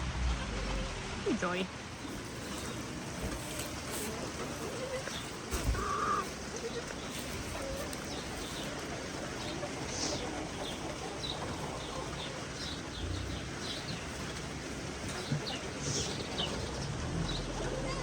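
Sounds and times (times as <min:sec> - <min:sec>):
small birds chirping: 0:00.6 - 0:18.0.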